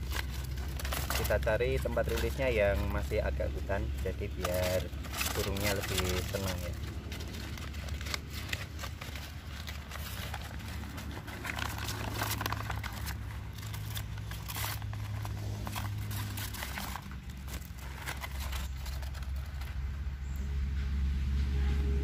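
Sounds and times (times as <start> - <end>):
paper bag crinkling: 0.0 - 20.0.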